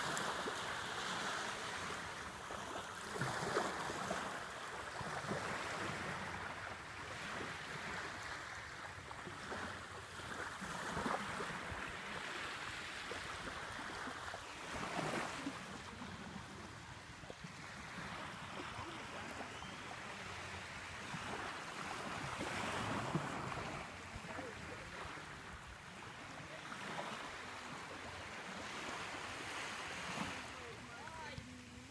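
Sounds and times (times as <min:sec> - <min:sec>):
small waves washing on beach: 0:00.0 - 0:31.9
wind: 0:00.0 - 0:31.9.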